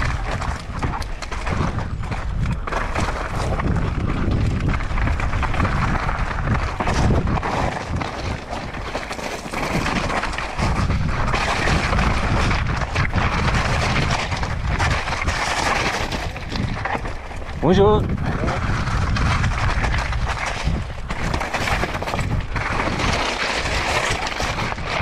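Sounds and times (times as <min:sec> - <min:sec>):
mountain bike rattling on trail: 0:00.0 - 0:25.0
wind buffeting microphone: 0:00.0 - 0:25.0.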